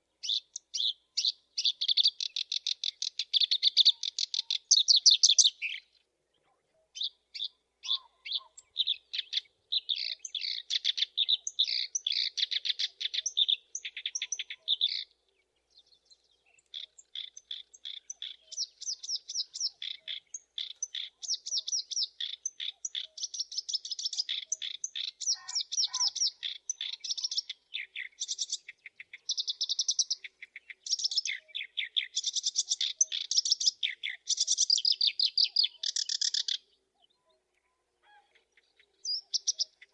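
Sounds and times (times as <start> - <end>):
reed warbler singing: 0.0 - 6.1, 6.9 - 37.2, 38.4 - 39.9.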